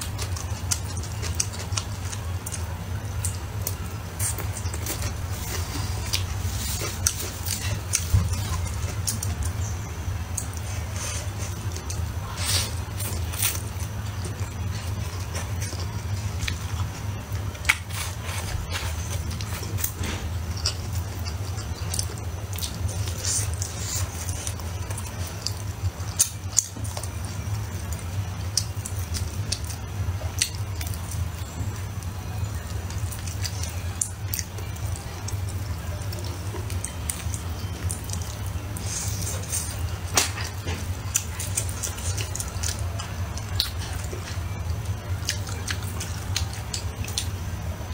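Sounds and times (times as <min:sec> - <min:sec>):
chewing with mouth clicks: 0:00.0 - 0:47.9
low steady hum: 0:00.0 - 0:47.9.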